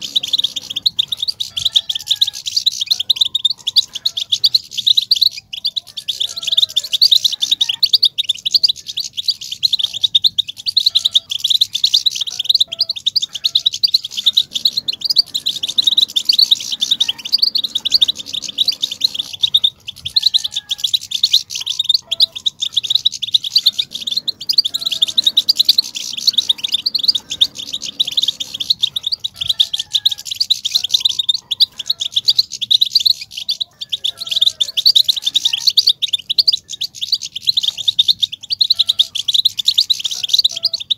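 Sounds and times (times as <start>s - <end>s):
goldfinch twittering chirps: 0.0s - 40.9s.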